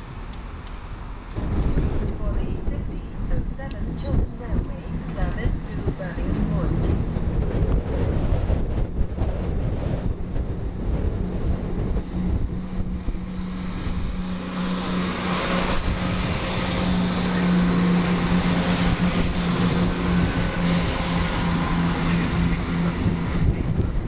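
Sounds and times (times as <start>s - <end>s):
diesel train engine drone: 0.0s - 24.0s
wheel and rail noise: 0.0s - 24.0s.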